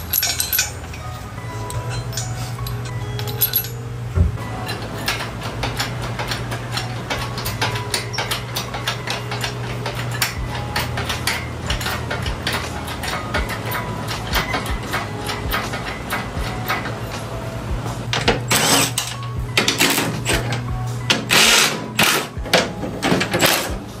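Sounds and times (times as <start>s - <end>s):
hand ratchet clicking: 0.0s - 1.0s, 4.6s - 17.3s, 18.0s - 23.9s
steady low hum: 0.0s - 24.0s.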